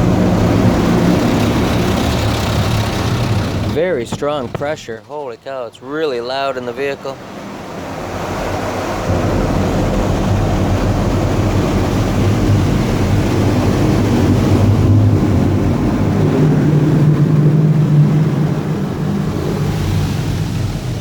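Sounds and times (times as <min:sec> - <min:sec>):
water jets spraying car body: 0:00.0 - 0:21.0.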